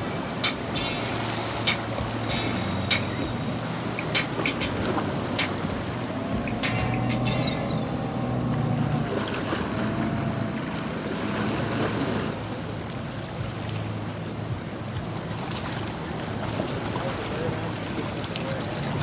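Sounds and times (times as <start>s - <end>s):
boat engine droning: 0.0s - 19.0s
surf: 0.0s - 19.0s.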